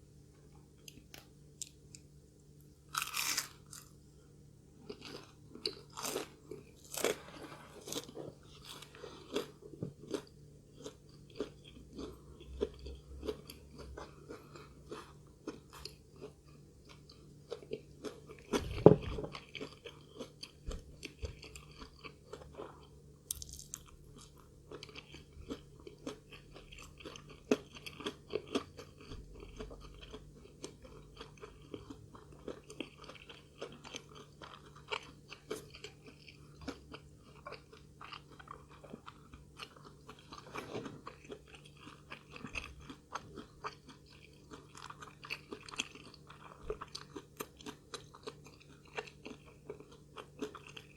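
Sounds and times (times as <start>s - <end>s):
chewing and crunching food: 0.4s - 50.9s.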